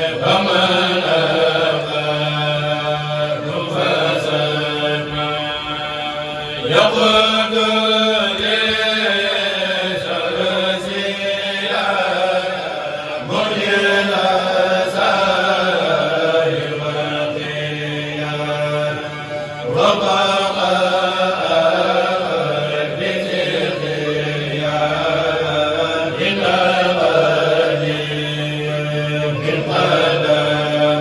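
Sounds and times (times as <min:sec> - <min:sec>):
men chanting: 0:00.0 - 0:31.0.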